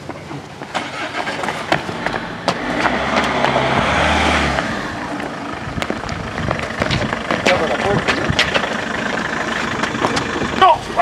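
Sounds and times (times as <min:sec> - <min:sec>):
footsteps: 0:00.0 - 0:11.0
car passing close: 0:00.7 - 0:11.0.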